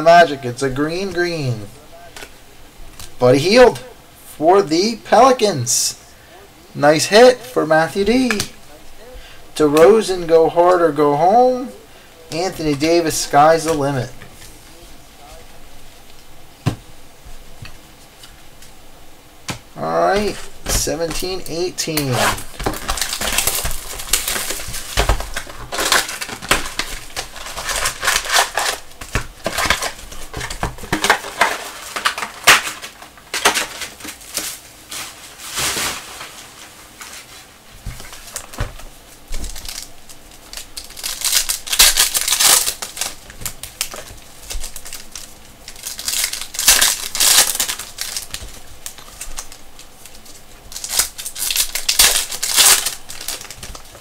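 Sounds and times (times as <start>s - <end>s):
foil card packs crinkling: 0.0s - 3.9s, 6.8s - 16.3s, 19.5s - 54.0s.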